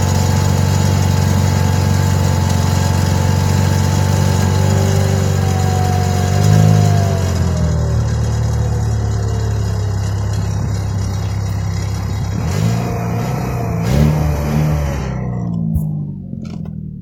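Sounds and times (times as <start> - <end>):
car engine idling: 0.0 - 17.0
engine throttle blips: 0.0 - 17.0.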